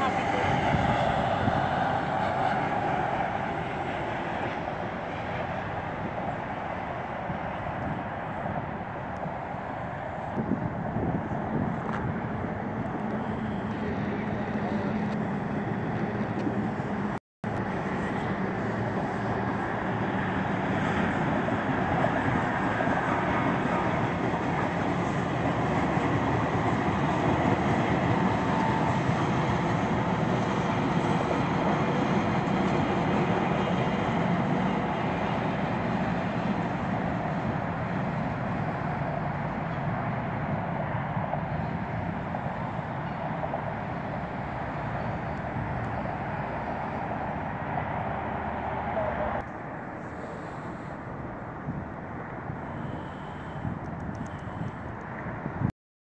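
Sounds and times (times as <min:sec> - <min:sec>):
train wheels on track: 0:00.0 - 0:51.3.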